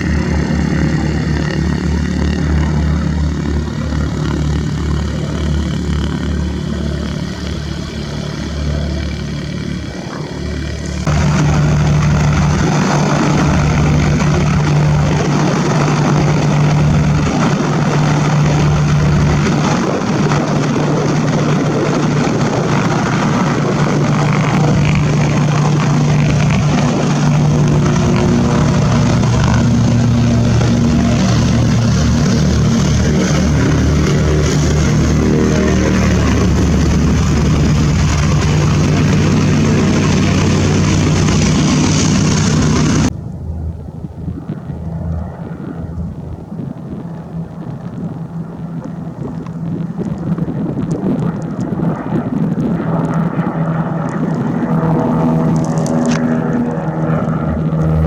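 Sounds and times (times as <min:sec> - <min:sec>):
propeller airplane engine drone: 0:00.0 - 0:58.0.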